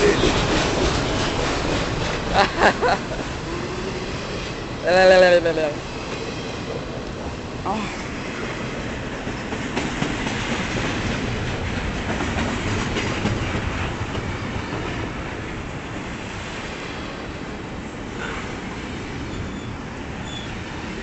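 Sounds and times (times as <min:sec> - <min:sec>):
freight train wheels clicking: 0:00.0 - 0:21.0.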